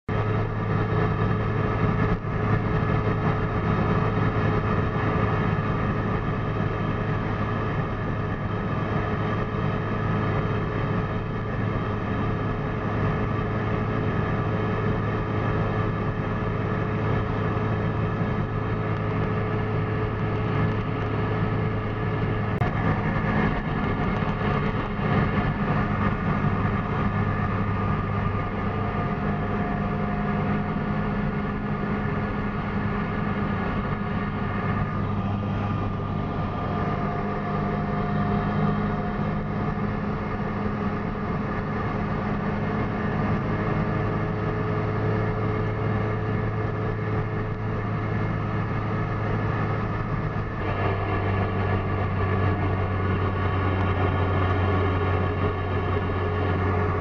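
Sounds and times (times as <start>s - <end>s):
two-stroke car engine running: 0.0s - 57.0s
wind and road noise: 0.0s - 57.0s.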